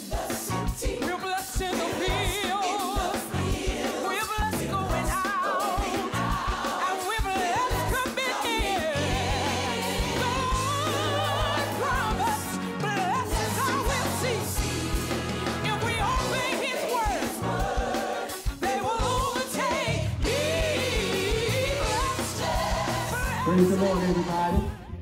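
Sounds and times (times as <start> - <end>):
drums: 0.0 - 25.0
gospel singers with vibrato: 0.0 - 25.0
bass: 0.3 - 1.0, 1.9 - 2.5, 3.2 - 5.3, 6.0 - 6.7, 7.5 - 25.0.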